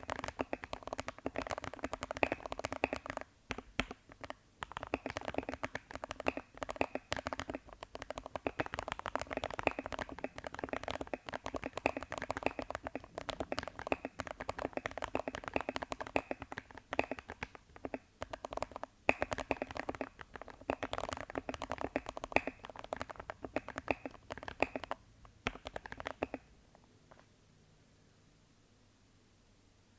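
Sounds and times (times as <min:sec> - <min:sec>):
mechanical keyboard typing: 0:00.0 - 0:26.5.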